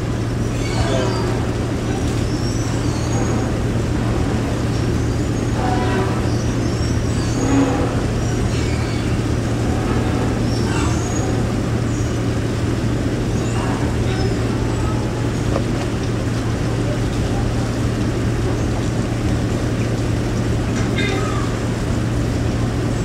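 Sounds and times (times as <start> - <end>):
ferry diesel engines idling: 0.0 - 23.0.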